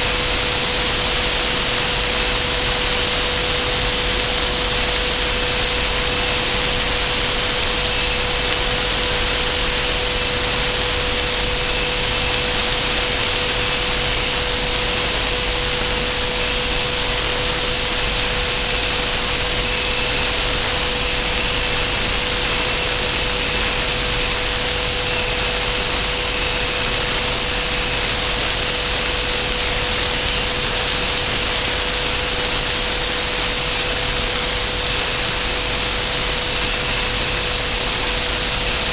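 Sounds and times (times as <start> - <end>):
machine high-pitched whine: 0.0 - 38.9.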